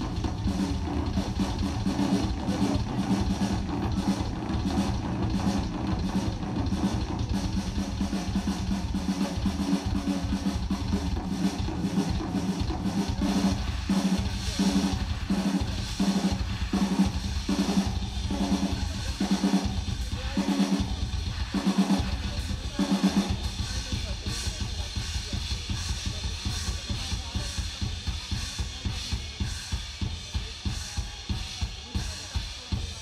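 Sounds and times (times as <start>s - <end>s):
low tom beating: 0.0s - 29.4s
drum solo with cymbals: 0.0s - 33.0s.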